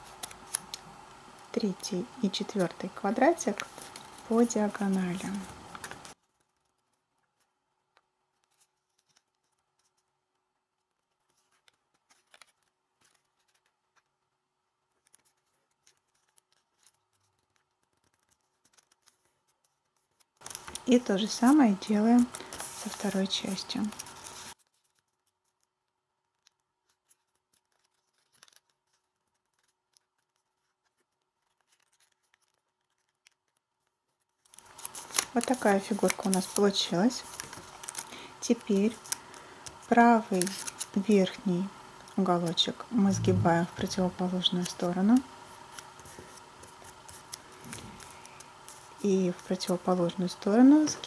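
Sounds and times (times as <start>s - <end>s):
paper being folded and creased: 0.0s - 41.4s, 42.0s - 50.9s.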